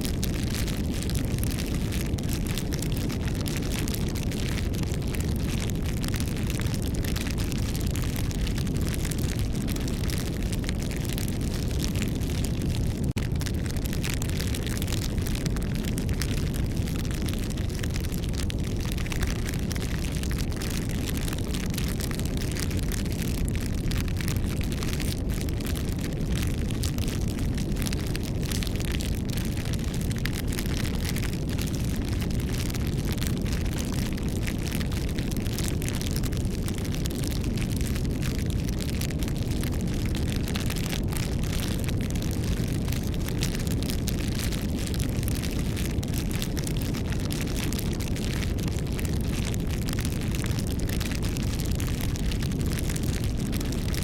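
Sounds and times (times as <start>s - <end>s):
burning wood crackling and popping: 0.0s - 54.0s
low rumble of flame: 0.0s - 54.0s.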